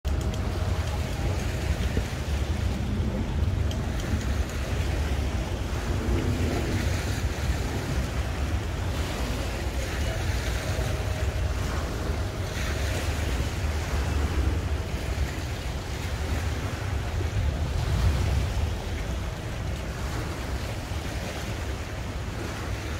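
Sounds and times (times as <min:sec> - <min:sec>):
wind on microphone: 0:00.0 - 0:22.9
waves splashing against concrete: 0:00.1 - 0:22.9.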